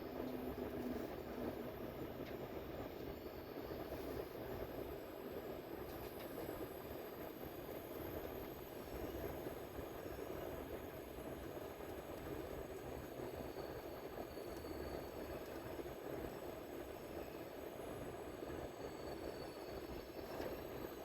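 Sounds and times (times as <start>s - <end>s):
subway train wheels rumbling on rails: 0.0s - 21.0s.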